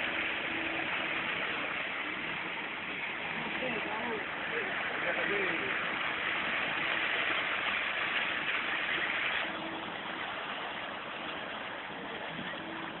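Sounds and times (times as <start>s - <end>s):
faint steady hum: 0.0s - 13.0s
steady rushing noise: 0.0s - 13.0s.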